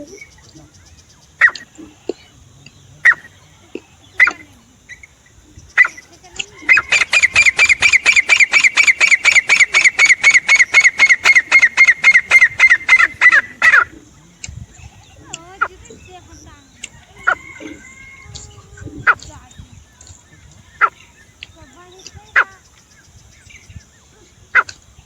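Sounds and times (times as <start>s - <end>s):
francolin calling: 0.0s - 25.0s.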